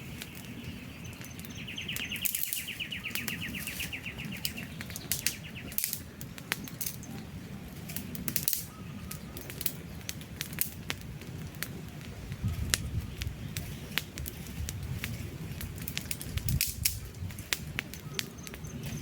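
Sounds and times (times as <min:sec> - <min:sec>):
burning logs popping and snapping: 0:00.0 - 0:19.0
campfire crackling: 0:00.0 - 0:19.0
low rumble of flames: 0:00.0 - 0:19.0.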